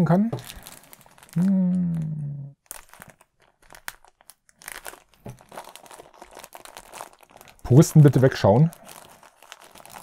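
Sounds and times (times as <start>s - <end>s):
plastic film crinkling and tearing: 0.2s - 10.0s.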